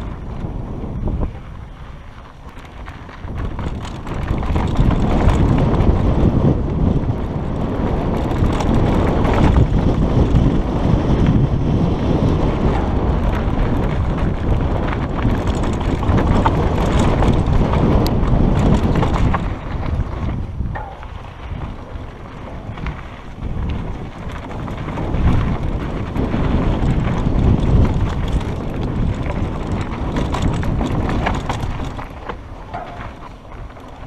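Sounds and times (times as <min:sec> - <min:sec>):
bike rattling: 0:00.0 - 0:34.0
tyres crunching over dirt and rocks: 0:00.0 - 0:34.0
wind rushing over microphone: 0:00.0 - 0:34.0.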